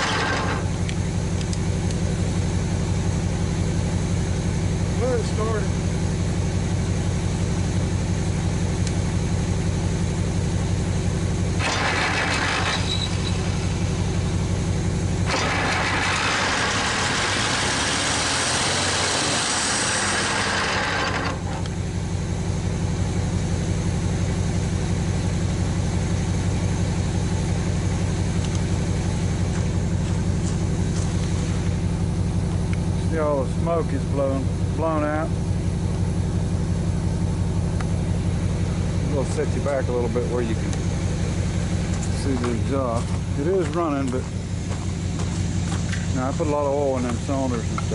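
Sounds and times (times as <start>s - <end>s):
engine running steadily: 0.0s - 47.9s.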